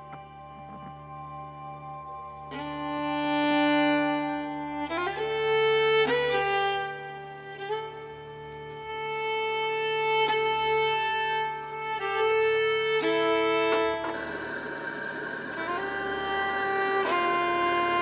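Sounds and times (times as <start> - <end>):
slow violin melody: 0.0 - 18.0.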